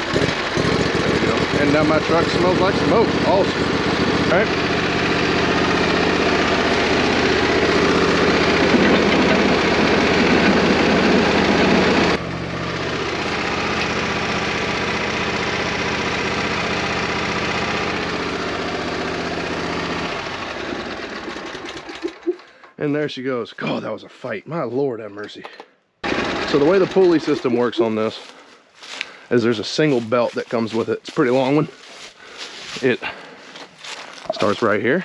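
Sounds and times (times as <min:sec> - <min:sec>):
engine humming: 0:00.0 - 0:24.1, 0:25.2 - 0:35.0.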